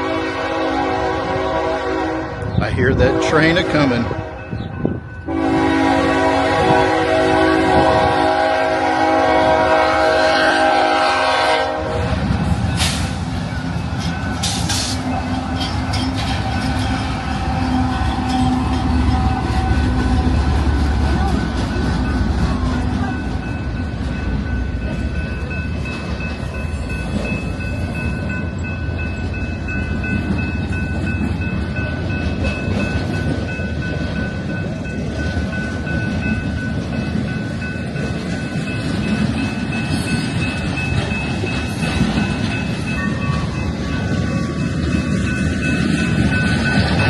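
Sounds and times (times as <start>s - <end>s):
freight train wheels rattling: 0.0s - 47.0s.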